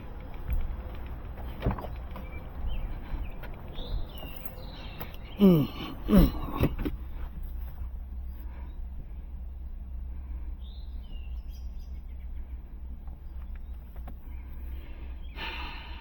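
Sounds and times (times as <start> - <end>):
birds chirping faintly: 0.0 - 16.0
low steady rumble: 0.0 - 16.0.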